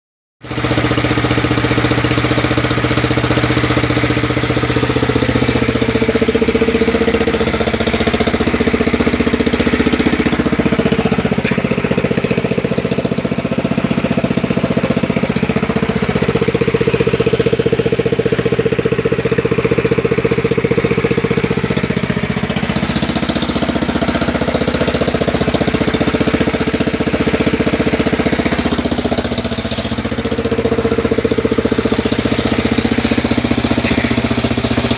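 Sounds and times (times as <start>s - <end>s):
lawn tractor engine running: 0.4s - 34.9s.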